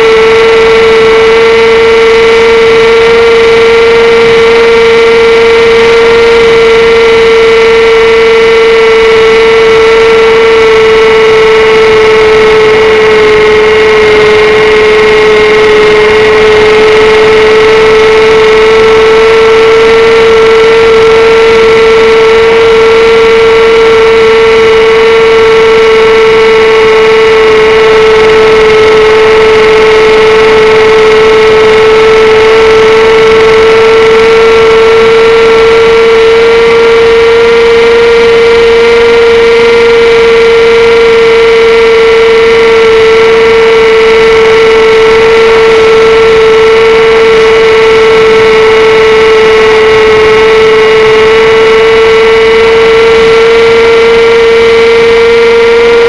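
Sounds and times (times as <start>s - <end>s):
electric motor and propeller hum: 0.0s - 56.0s.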